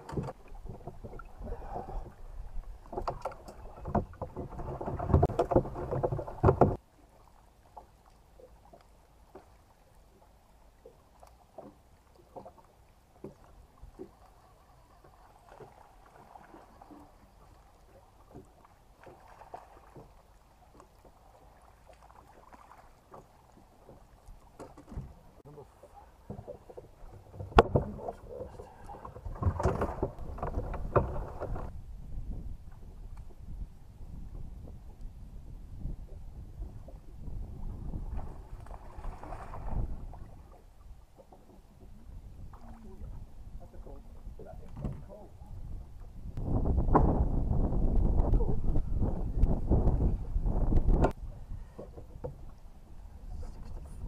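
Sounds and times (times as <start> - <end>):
boat hull and water noise: 0.0 - 54.0.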